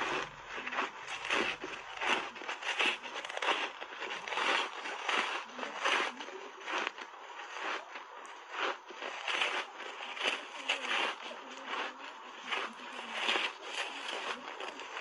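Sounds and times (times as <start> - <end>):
ice bar crunching: 0.0 - 15.0.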